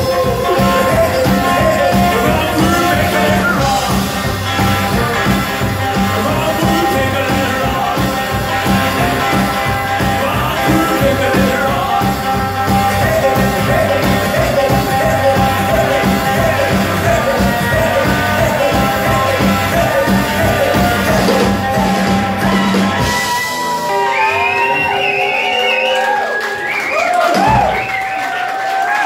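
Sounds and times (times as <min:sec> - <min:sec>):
rockabilly band playing live: 0:00.0 - 0:29.0.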